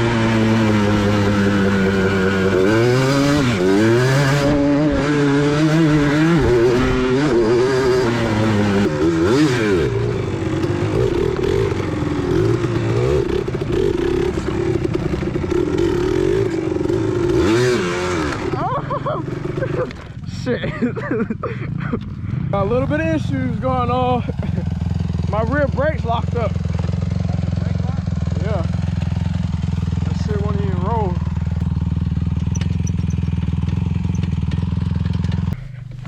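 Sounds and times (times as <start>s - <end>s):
single-cylinder engine running: 0.0s - 20.1s, 23.6s - 36.0s.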